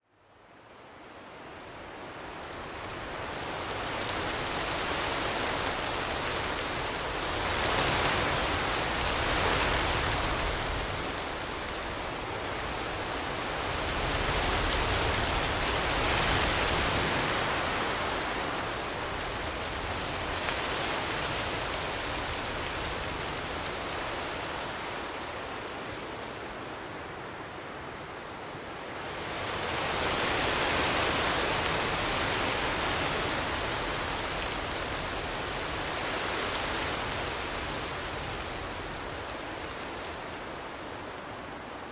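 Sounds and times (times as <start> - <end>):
wind blowing in gusts: 0.6 - 41.9.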